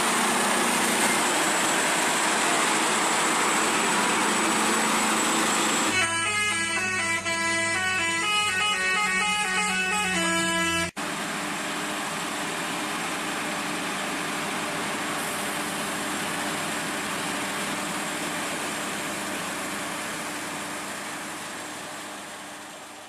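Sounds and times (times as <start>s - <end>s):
rushing vehicle noise: 0.0s - 23.0s.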